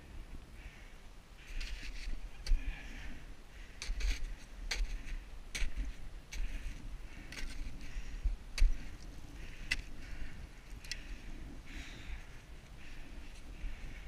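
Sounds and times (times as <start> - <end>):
low wind rumble: 0.0 - 14.0.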